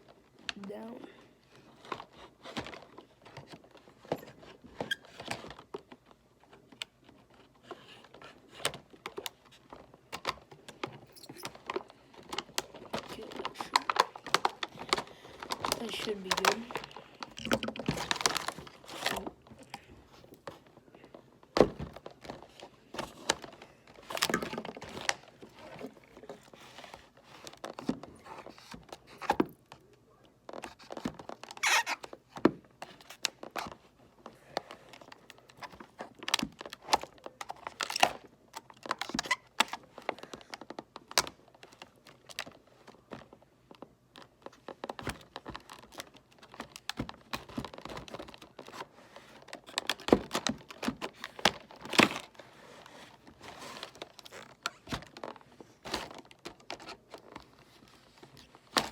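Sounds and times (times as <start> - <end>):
plastic packaging crinkling and tearing: 1.6 - 29.9, 30.5 - 58.9.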